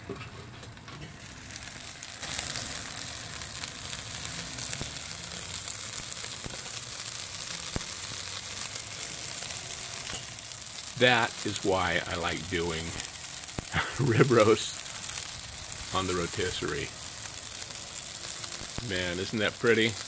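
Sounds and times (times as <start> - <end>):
faint crackles: 0.0 - 20.0
meat sizzling on grill: 1.0 - 20.0.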